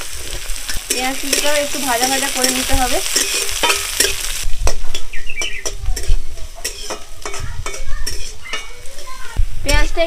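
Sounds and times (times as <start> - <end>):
spatula scraping pan: 0.0 - 9.4
onion sizzling in oil: 0.0 - 10.0.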